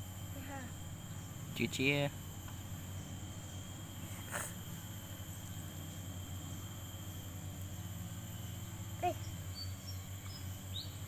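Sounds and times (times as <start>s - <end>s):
insects calling: 0.0s - 11.0s
low steady hum: 0.0s - 11.0s.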